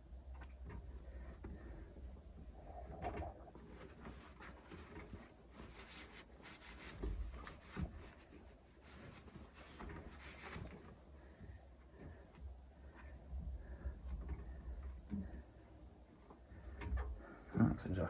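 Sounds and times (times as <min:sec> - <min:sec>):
light clicks and rubbing: 0:00.3 - 0:17.3.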